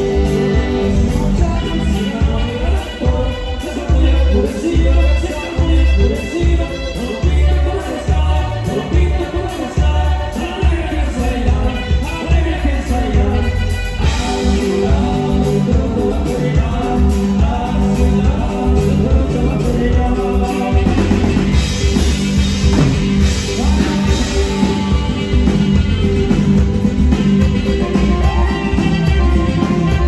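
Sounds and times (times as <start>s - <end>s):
sustained melody line: 0.0s - 9.2s, 11.2s - 30.0s
bass: 0.0s - 30.0s
live band playing: 0.0s - 30.0s
steady drum beat: 0.0s - 30.0s.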